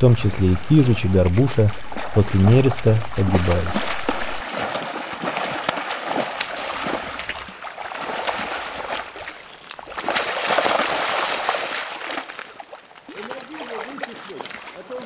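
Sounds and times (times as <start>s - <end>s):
fish thrashing and splashing: 0.5s - 15.0s.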